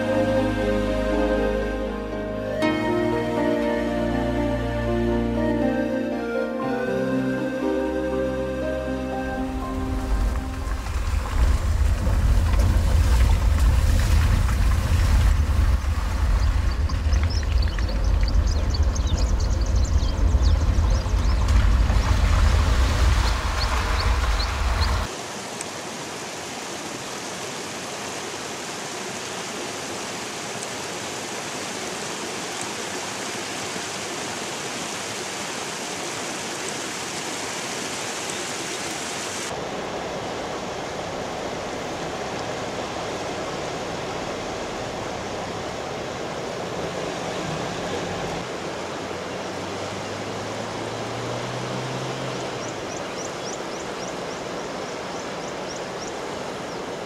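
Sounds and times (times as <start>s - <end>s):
river water running over rocks: 8.8s - 57.0s.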